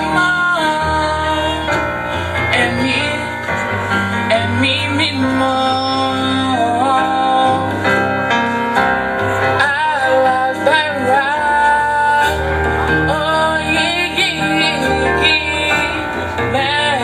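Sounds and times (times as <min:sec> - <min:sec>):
bass line: 0:00.0 - 0:17.0
person singing with vibrato: 0:00.0 - 0:17.0.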